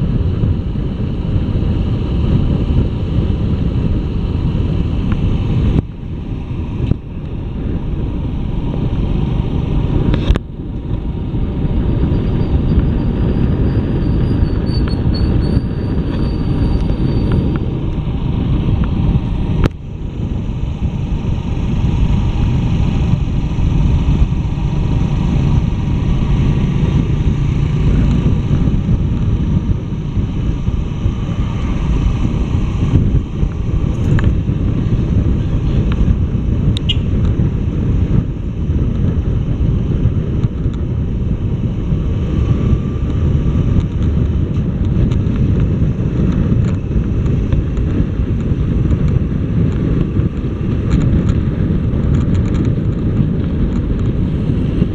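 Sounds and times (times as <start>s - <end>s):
motorcycle engine running: 0.0s - 54.9s
wind rumble on microphone: 0.0s - 54.9s.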